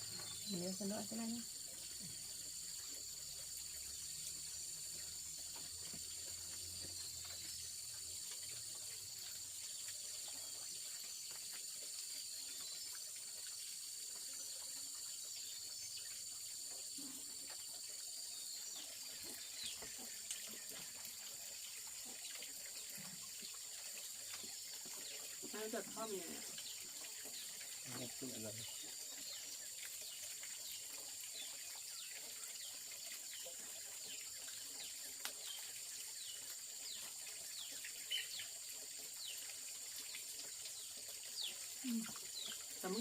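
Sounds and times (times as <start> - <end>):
insect chorus: 0.0 - 43.0.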